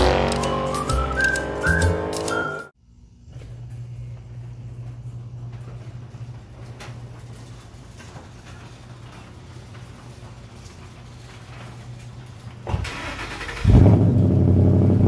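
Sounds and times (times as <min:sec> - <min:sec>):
garage door opener humming: 0:00.0 - 0:14.7.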